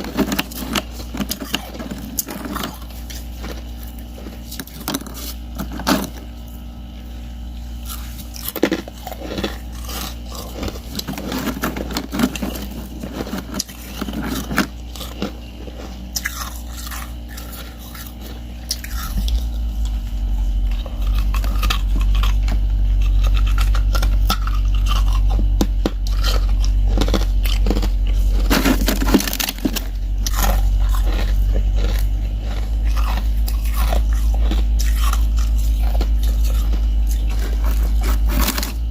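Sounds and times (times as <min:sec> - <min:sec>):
person chewing crunchy ice: 0:00.0 - 0:38.9
steady low hum: 0:00.0 - 0:38.9.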